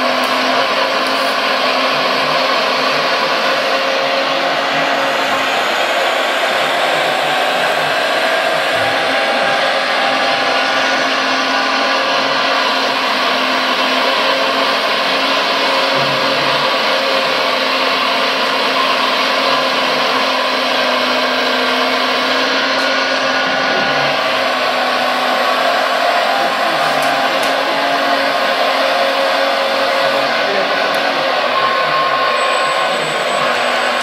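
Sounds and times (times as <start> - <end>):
electronic diesel engine sound: 0.0 - 34.0
hydraulic drive whir: 0.0 - 34.0.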